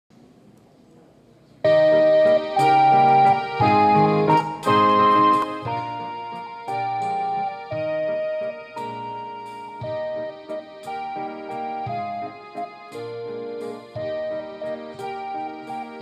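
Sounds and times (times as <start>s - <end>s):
electronic keyboard melody: 1.6s - 16.0s.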